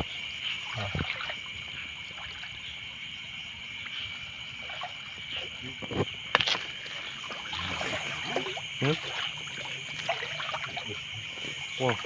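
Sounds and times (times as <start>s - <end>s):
faint water splashes: 0.0s - 12.0s
insects and frogs trilling: 0.0s - 12.0s.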